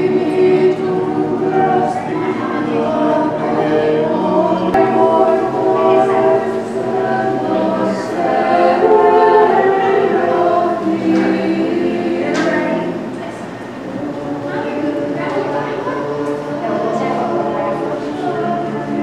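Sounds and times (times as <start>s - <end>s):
church choir singing: 0.0s - 19.0s.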